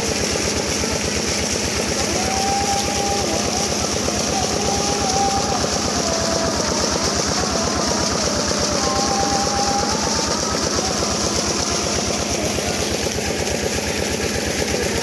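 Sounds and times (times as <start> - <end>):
small diesel engine chugging: 0.0 - 15.0
water gushing from pump: 0.0 - 15.0.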